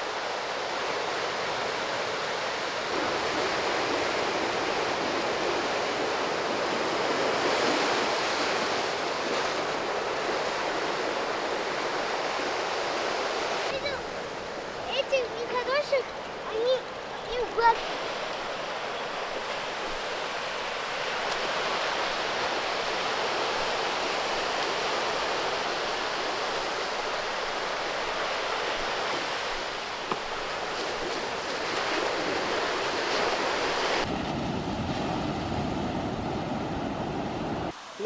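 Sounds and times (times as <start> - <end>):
sea waves washing over rocks: 0.0 - 36.1.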